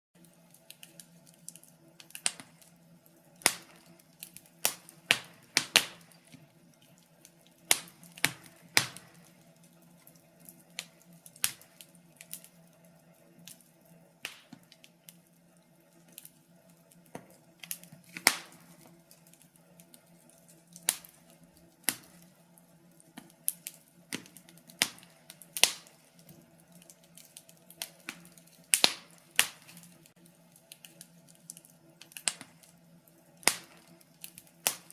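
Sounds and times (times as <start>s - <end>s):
wood fire crackling: 0.2s - 34.9s.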